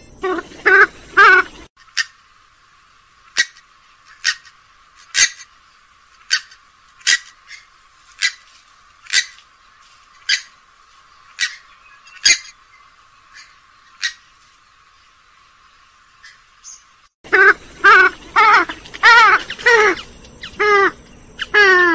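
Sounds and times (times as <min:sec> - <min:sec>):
swamphen calling: 0:00.0 - 0:02.3, 0:03.2 - 0:21.9.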